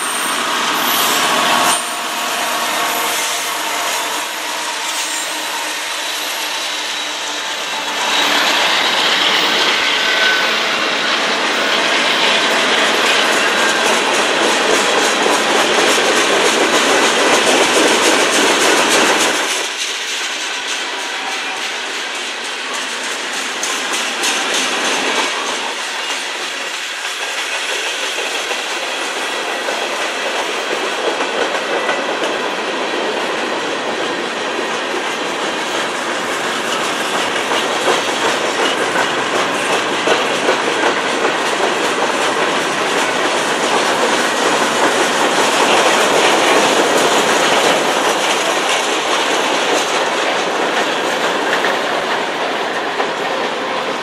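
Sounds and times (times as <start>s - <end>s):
clickety-clack of train wheels: 0.0s - 54.0s
train wheels rumbling on rails: 0.0s - 54.0s.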